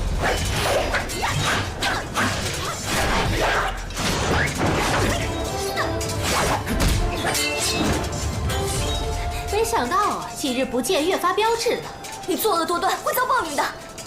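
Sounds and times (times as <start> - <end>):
dramatic music score: 0.0 - 14.0.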